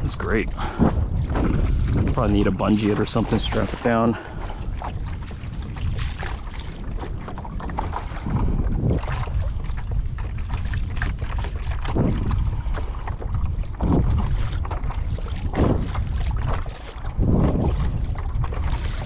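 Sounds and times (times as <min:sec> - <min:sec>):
water sloshing against hull: 0:00.0 - 0:19.0
wind buffeting microphone: 0:00.0 - 0:19.0.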